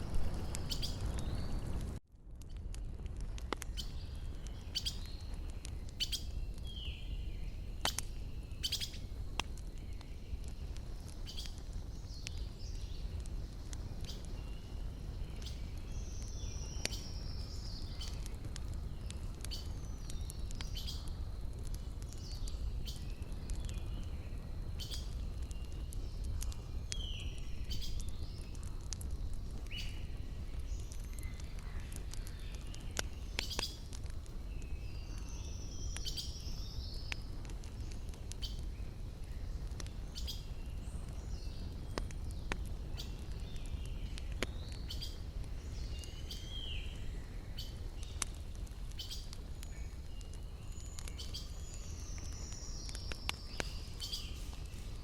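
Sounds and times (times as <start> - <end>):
campfire crackling and popping: 0.0 - 55.0
small birds chirping: 0.3 - 1.8, 3.6 - 55.0.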